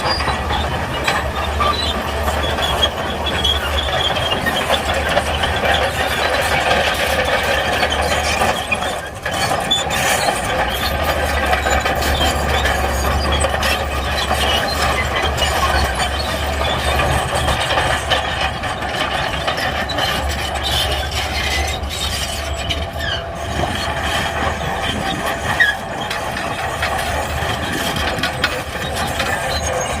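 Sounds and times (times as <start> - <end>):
bulldozer engine drone: 0.0 - 30.0
steel tracks squealing and rattling: 0.0 - 30.0.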